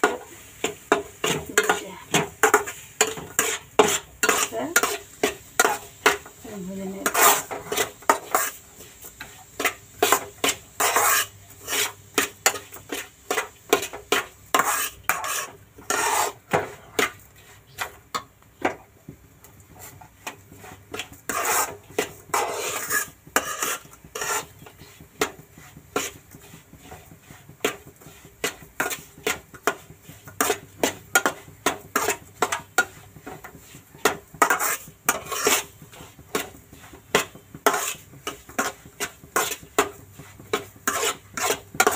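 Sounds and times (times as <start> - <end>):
spatula scraping through grains: 0.0 - 18.8, 19.4 - 41.9.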